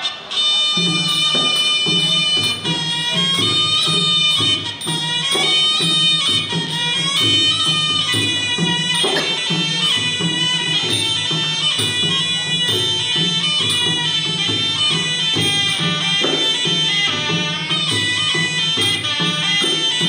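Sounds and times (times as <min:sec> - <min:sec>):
reed oboe melody: 0:00.0 - 0:20.0
steady drum beat: 0:00.8 - 0:20.0.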